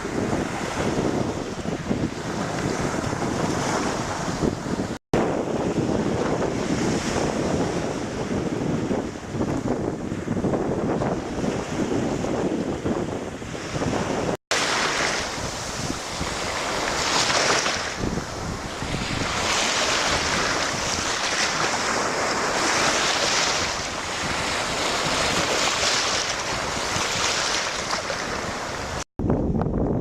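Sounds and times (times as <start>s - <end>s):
waves breaking in surf: 0.0s - 29.1s.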